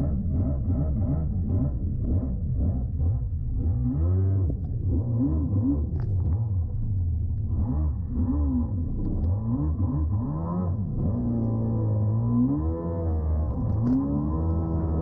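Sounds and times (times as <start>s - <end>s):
jet ski engine revving: 0.0s - 15.0s.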